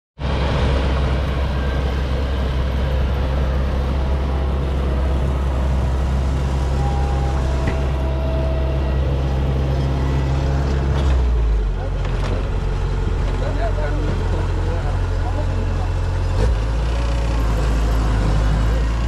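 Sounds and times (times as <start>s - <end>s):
combine harvester engine humming: 0.2s - 19.0s.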